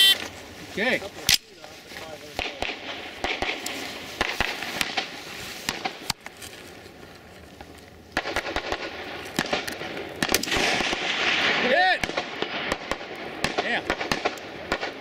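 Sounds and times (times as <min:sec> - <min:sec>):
sharp pops and crackles: 0:00.0 - 0:15.0.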